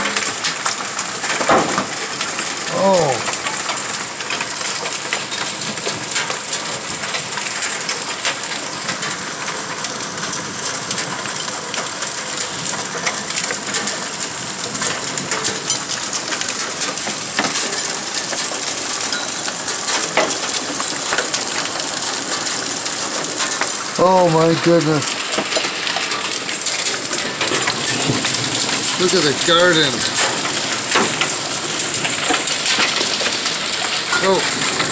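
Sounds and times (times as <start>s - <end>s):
hailstones clattering on hard surfaces: 0.0s - 34.9s
pouring rain hiss: 0.0s - 34.9s.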